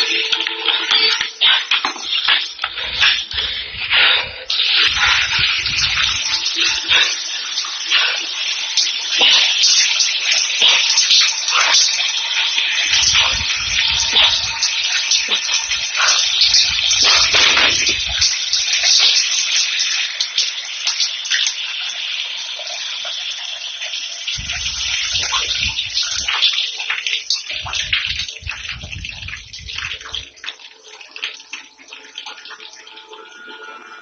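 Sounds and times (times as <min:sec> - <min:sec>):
water rushing: 0:00.0 - 0:19.3, 0:24.3 - 0:34.0.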